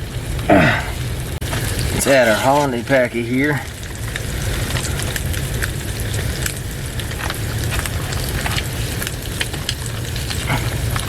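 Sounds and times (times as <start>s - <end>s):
crackles and pops: 0.0s - 11.0s
eggs sizzling in a pan: 0.0s - 11.0s.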